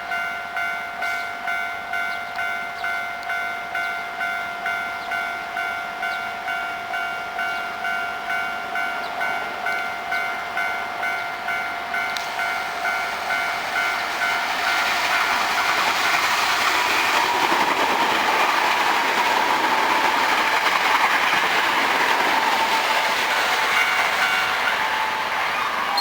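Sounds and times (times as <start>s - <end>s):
level crossing warning bell: 0.0s - 26.0s
train running noise: 0.0s - 26.0s.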